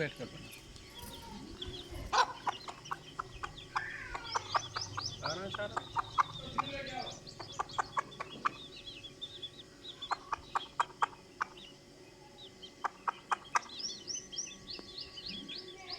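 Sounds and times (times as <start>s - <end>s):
chicks peeping: 0.0s - 15.9s
hen clucking: 0.0s - 15.9s.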